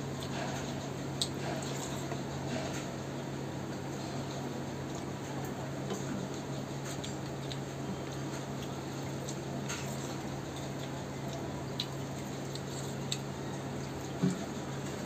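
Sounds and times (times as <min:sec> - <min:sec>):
steady low hum: 0:00.0 - 0:15.0
chewing: 0:00.2 - 0:02.9, 0:03.9 - 0:15.0.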